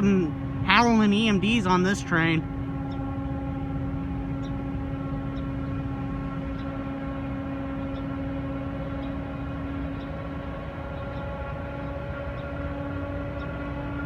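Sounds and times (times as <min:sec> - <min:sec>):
low engine rumble: 0:00.0 - 0:14.0
turbocharger whine: 0:00.0 - 0:14.0.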